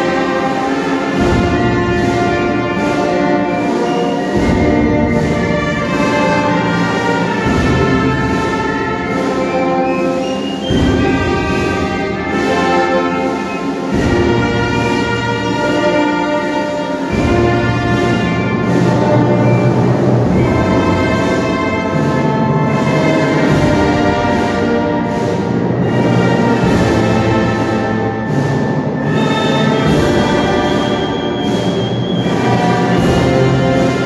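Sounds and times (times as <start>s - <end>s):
band playing a funeral march: 0.0s - 34.0s
low brass phrases: 0.0s - 34.0s.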